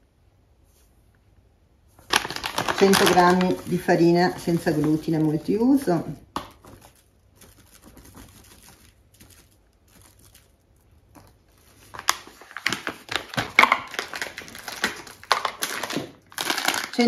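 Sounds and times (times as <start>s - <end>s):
flour bag crinkling: 1.9s - 17.0s.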